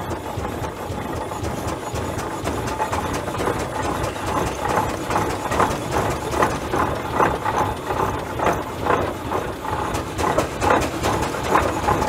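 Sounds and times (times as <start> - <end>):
steam engine exhaust chuffing: 0.0 - 12.0.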